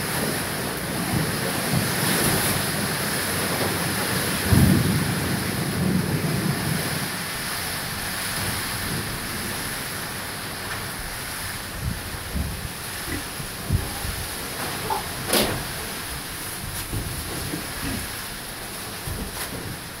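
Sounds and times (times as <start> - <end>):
rain on a metal roof: 0.0 - 20.0.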